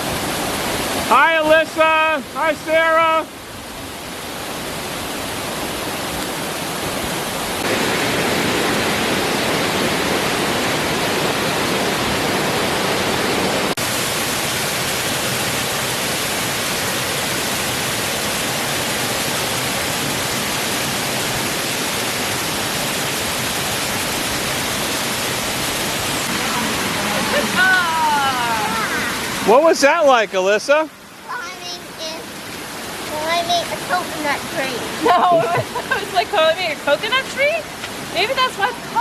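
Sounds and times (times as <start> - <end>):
waterfall rushing over rock: 0.0 - 39.0.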